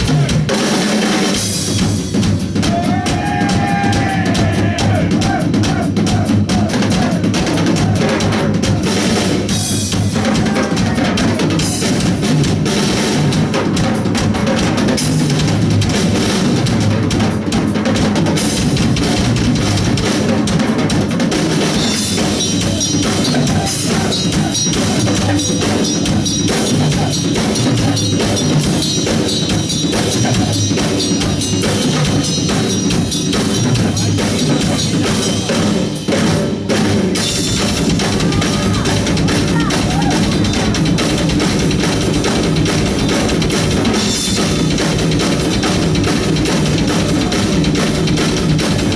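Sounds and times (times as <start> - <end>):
bass drum and snare hits: 0.0 - 48.9
live band music: 0.0 - 48.9.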